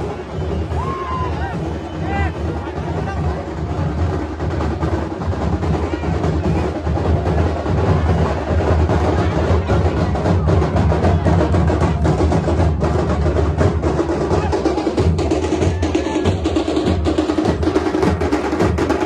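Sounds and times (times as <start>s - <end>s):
deep dhol drum beats: 0.0s - 19.0s
rapid sharp tasha drum strikes: 0.0s - 19.0s.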